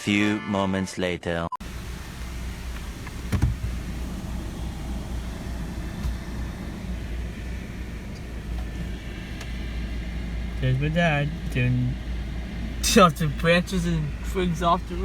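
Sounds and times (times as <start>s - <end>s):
car engine low rumble: 1.6s - 15.0s.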